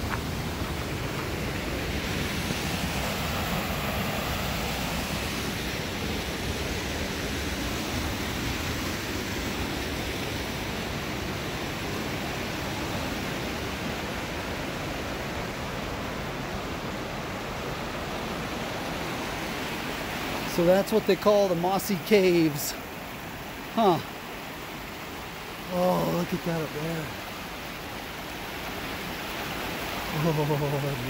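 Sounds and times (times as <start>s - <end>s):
creek rushing over rocks: 0.0s - 31.0s.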